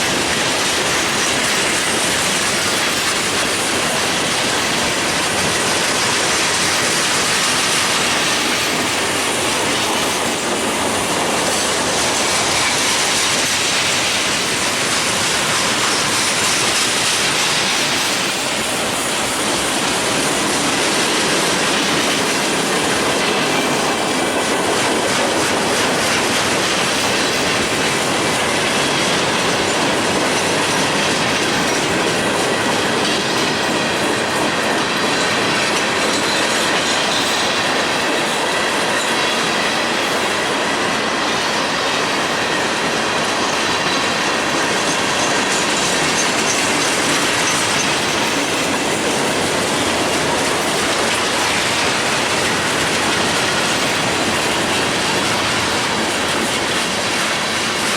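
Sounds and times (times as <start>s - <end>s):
freight train rolling past: 0.0s - 57.9s
steel wheels squealing on rails: 0.0s - 57.9s.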